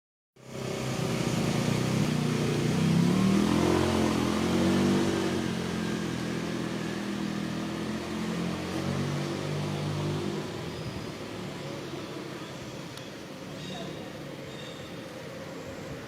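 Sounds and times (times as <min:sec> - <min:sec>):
motor engine running: 0:00.4 - 0:15.2.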